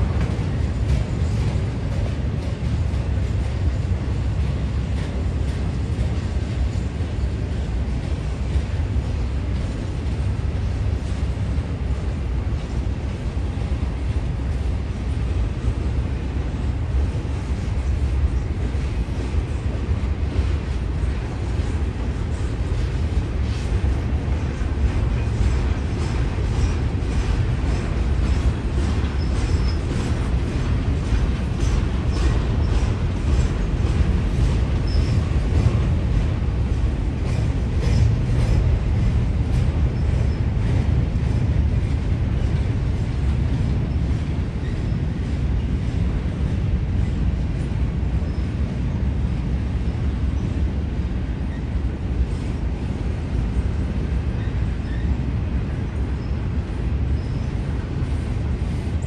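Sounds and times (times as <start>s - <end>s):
rail clicking: 0.0s - 49.3s
train wheels rumbling on rails: 0.0s - 59.0s.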